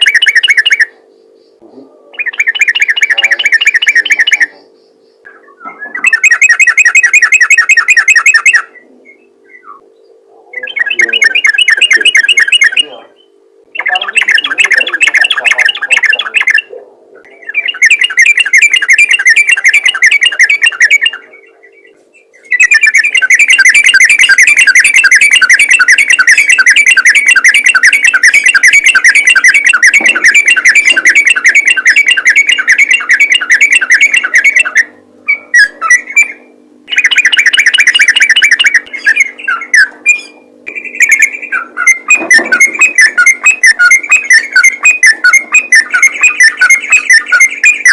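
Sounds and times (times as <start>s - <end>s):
bulbul singing rattling song: 0.0s - 47.9s
faint low hum: 0.0s - 47.9s.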